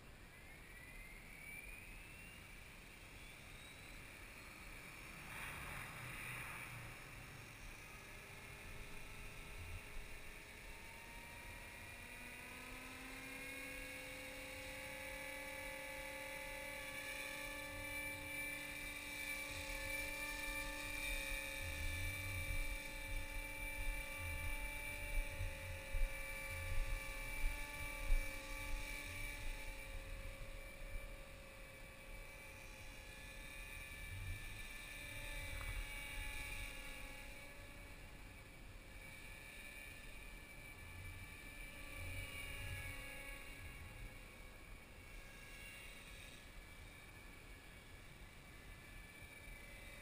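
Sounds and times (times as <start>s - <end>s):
rc helicopter motor whine: 0.0s - 50.0s.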